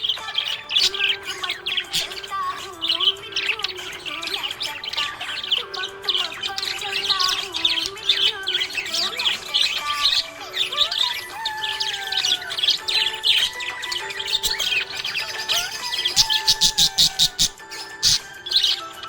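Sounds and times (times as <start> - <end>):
budgerigars chirping and warbling: 0.0 - 19.0.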